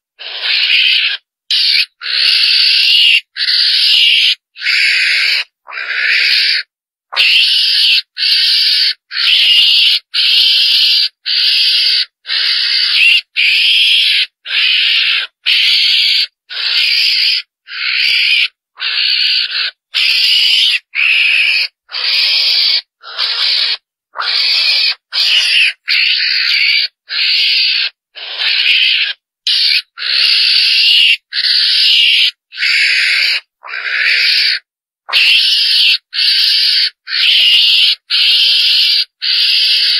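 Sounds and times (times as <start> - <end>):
hissy raspy animal calls: 0.0 - 39.9.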